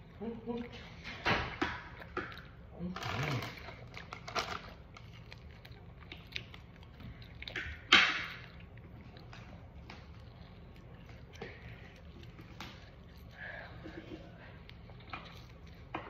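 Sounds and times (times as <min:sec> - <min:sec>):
person chewing steak: 0:00.0 - 0:16.0.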